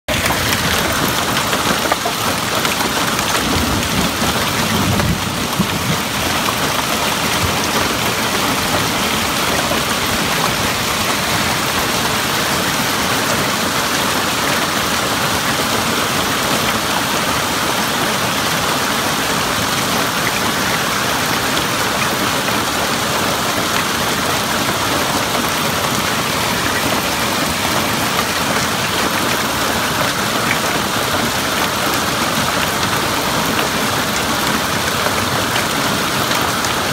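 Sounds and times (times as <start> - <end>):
hail clattering: 0.1 - 36.9.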